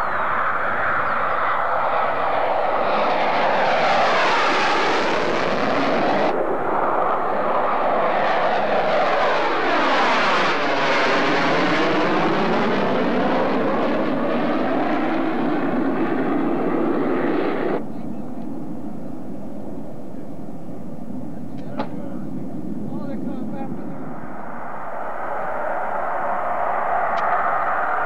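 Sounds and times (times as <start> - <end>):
jet fighter passing overhead: 0.0 - 28.0.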